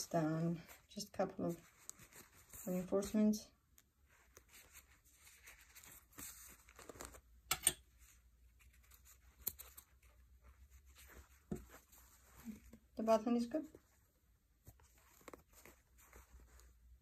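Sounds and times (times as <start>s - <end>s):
denim rustling: 0.0s - 17.0s.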